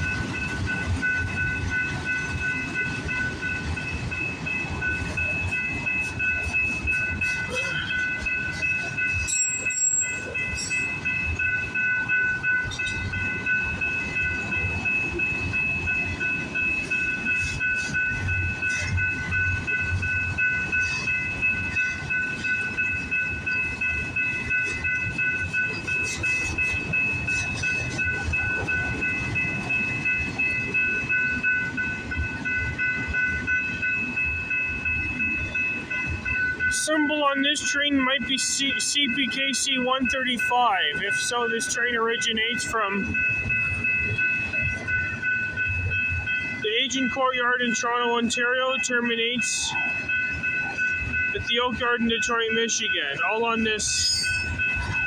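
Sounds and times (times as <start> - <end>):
freight train wheels rumbling: 0.0 - 55.0
high ringing tones: 0.0 - 55.0.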